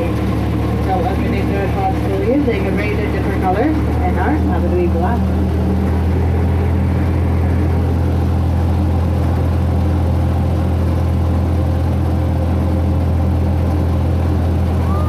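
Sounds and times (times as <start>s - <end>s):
train engine droning: 0.0s - 15.0s.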